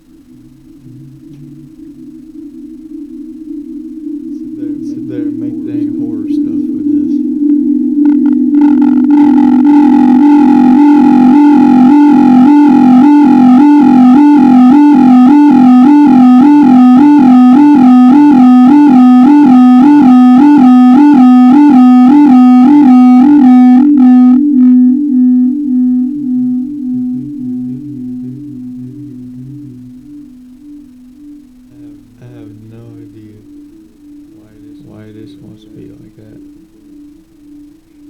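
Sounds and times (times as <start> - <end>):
eerie electronic drone from microphone: 0.0 - 38.0.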